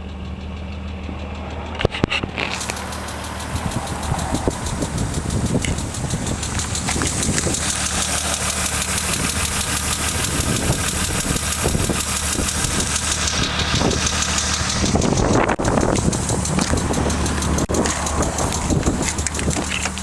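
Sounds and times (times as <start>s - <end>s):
car engine idling: 0.0s - 20.0s
engine lifter ticking: 0.0s - 20.0s.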